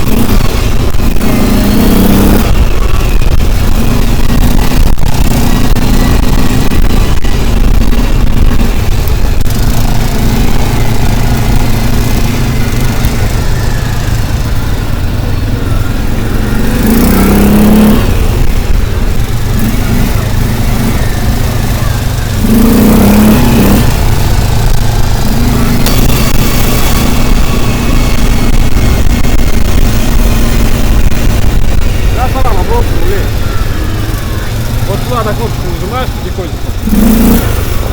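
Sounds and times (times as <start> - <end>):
vehicle engine rumbling and revving: 0.0 - 37.9.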